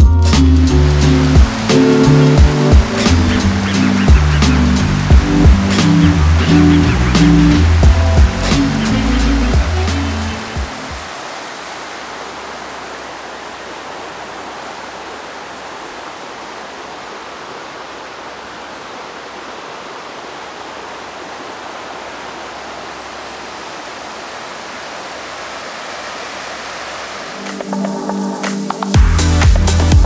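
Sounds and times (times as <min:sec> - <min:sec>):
river rushing over rocks: 0:00.6 - 0:29.0.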